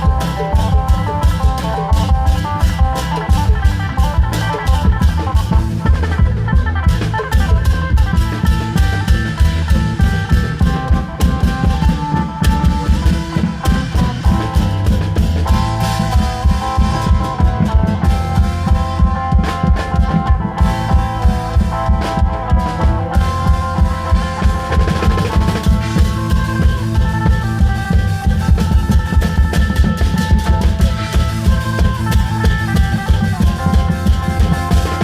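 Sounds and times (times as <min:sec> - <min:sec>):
long drums beating: 0:00.0 - 0:35.0
melody over drums: 0:00.0 - 0:35.0.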